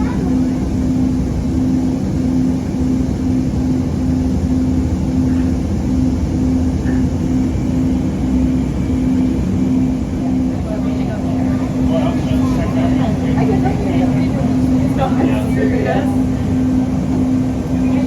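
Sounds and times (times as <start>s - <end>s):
pulsing low hum: 0.0s - 18.0s
train rumbling in motion: 0.0s - 18.0s.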